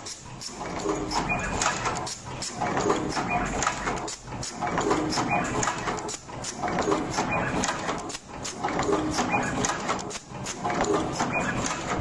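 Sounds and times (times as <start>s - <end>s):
machine clicking and clacking: 0.0s - 12.0s.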